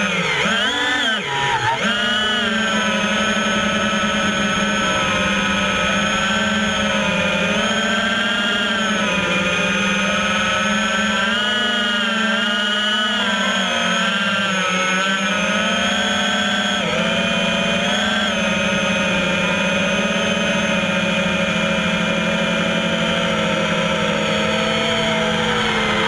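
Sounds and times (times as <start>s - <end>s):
motor running steadily: 0.0s - 26.0s.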